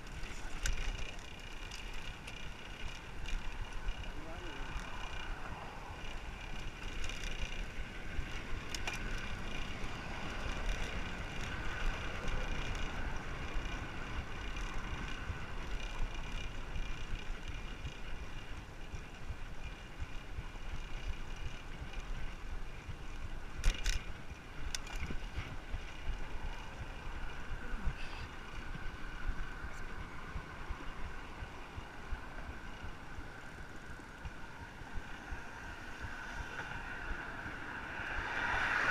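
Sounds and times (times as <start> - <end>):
bicycle tyre noise: 0.0 - 38.9.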